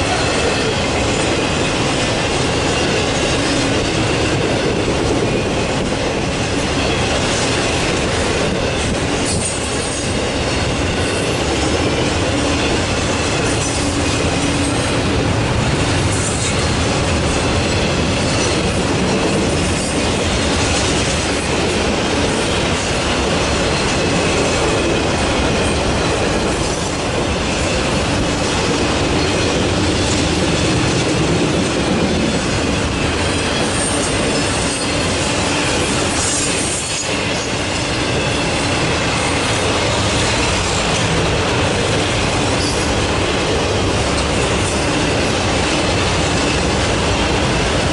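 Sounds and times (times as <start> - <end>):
train wheels clickety-clack: 0.0 - 47.9.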